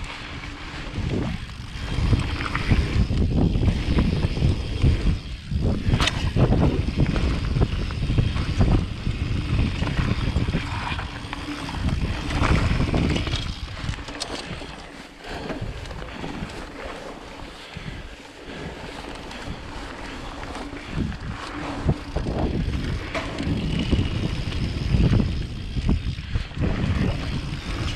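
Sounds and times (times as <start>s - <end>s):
bike rattling on rough trail: 0.0s - 27.9s
wind buffeting microphone: 0.0s - 27.9s.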